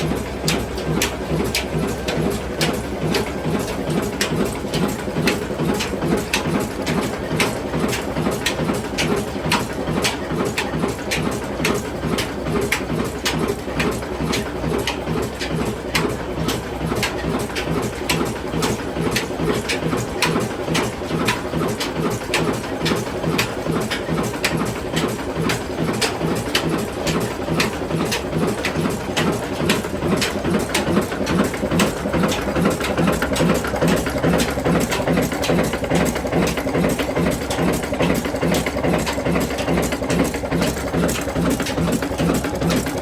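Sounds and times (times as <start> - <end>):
diesel engine chugging: 0.0 - 43.0.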